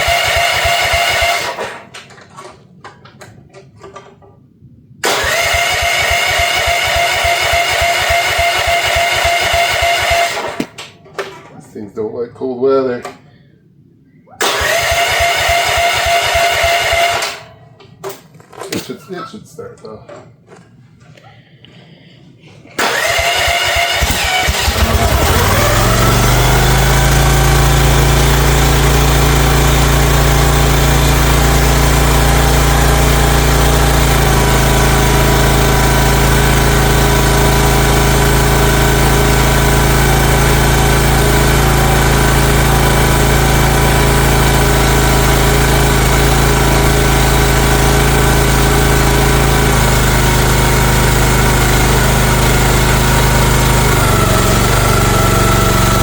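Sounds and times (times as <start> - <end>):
small engine starting and running: 0.0 - 2.6, 5.0 - 10.9, 14.4 - 18.2, 22.8 - 56.0.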